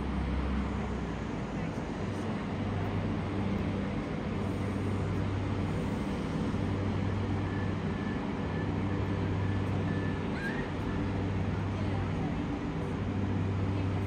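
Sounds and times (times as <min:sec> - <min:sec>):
diesel railcar engine hum: 0:00.0 - 0:14.0.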